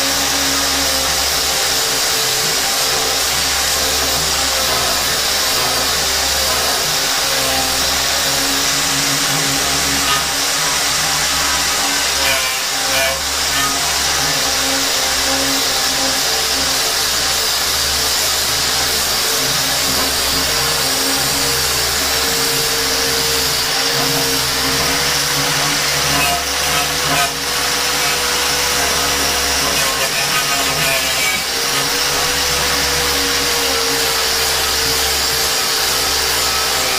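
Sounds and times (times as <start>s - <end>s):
angle grinder on steel plate: 0.0s - 36.9s.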